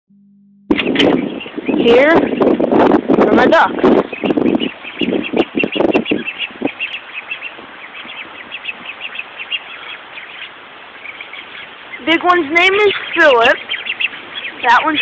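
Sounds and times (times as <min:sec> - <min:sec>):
ducklings peeping: 0:00.7 - 0:15.0.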